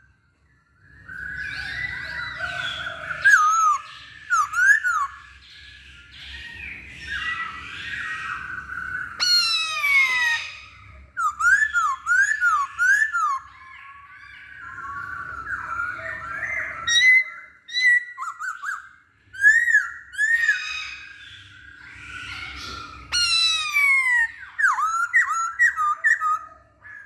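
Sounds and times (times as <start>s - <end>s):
bird singing clear whistles: 3.2s - 26.5s.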